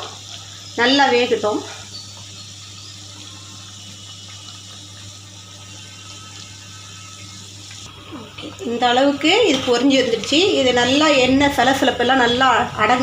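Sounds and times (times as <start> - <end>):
oil sizzling and bubbling: 0.0 - 13.0.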